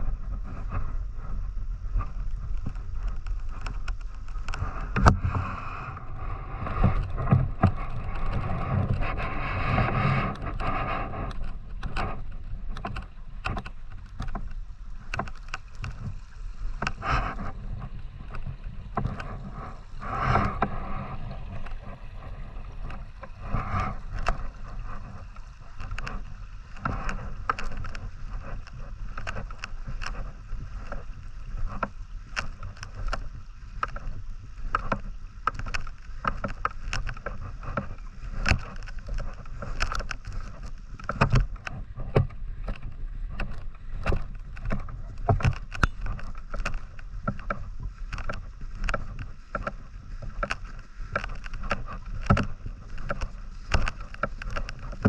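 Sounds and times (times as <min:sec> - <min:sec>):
river water sloshing and gurgling: 0:00.0 - 0:55.0
small irregular knocks and clicks: 0:02.0 - 0:06.0, 0:06.6 - 0:55.0.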